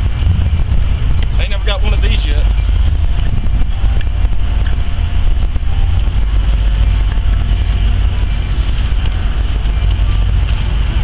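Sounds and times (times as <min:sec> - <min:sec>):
diesel locomotive engine rumbling: 0:00.0 - 0:11.0.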